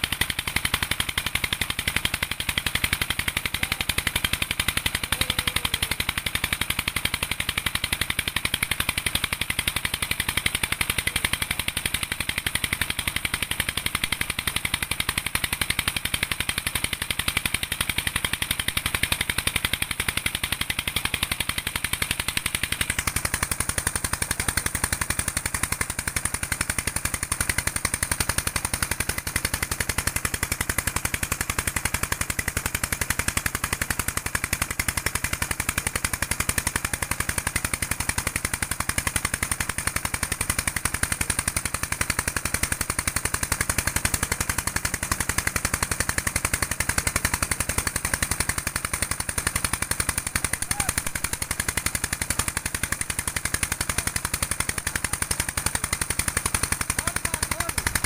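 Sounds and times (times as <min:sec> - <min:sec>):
diesel engine chugging: 0:01.6 - 0:30.9, 0:34.2 - 0:58.0.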